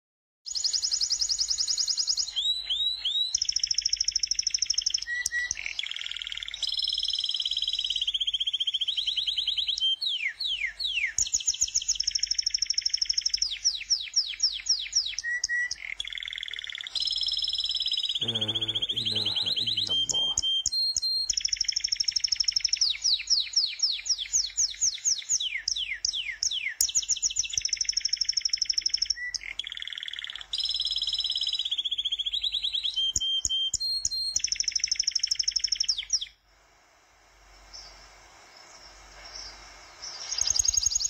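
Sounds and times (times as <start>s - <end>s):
songbird trilling and whistling: 0.5s - 36.4s, 39.2s - 41.0s.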